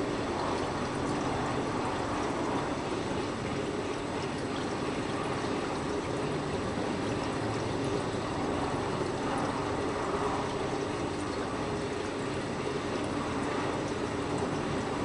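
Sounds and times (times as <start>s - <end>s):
aquarium filter water bubbling: 0.0s - 15.0s
filter low hum: 0.0s - 15.0s.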